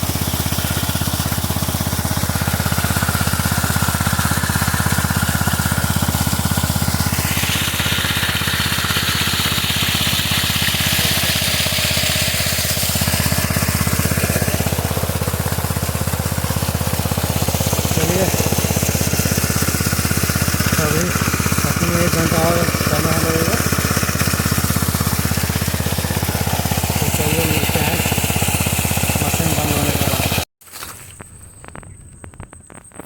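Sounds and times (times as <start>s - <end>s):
pump engine running: 0.0s - 33.0s.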